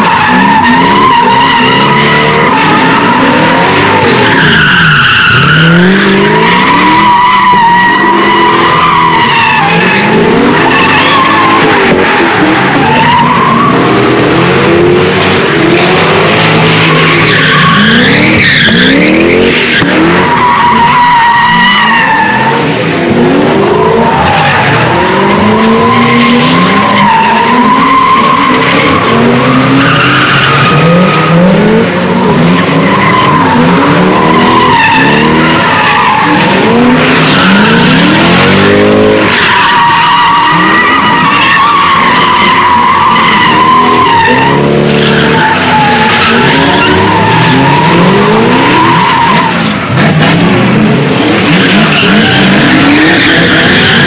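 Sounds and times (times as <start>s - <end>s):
tyres squealing: 0.0s - 22.7s, 23.7s - 54.0s
car engines revving: 0.0s - 54.0s.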